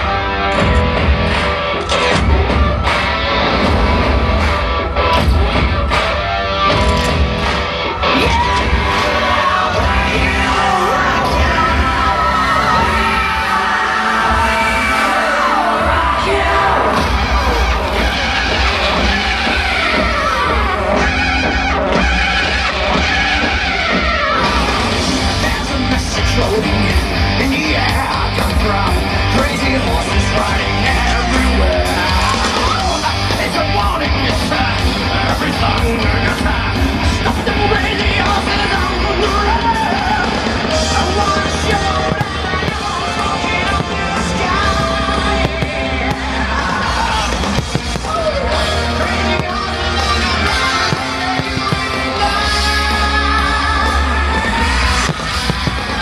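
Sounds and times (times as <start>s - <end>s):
loud rock music with shouted vocals: 0.0s - 56.0s.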